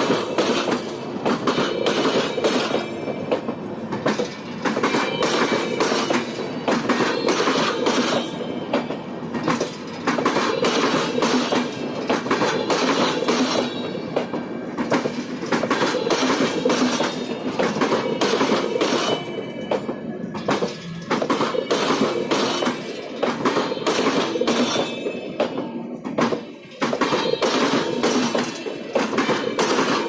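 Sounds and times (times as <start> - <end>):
train wheels clattering over crossing: 0.0 - 30.0.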